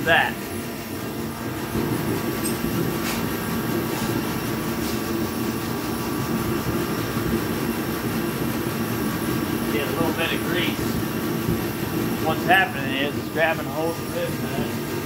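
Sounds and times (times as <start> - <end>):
forced-air heater rumbling: 0.0 - 15.0.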